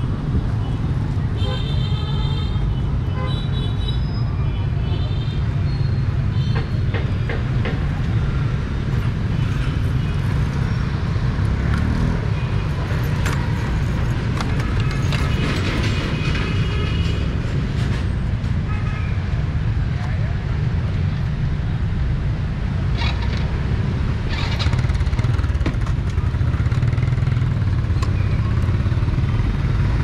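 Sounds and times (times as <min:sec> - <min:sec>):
low rumble of street noise: 0:00.0 - 0:30.0.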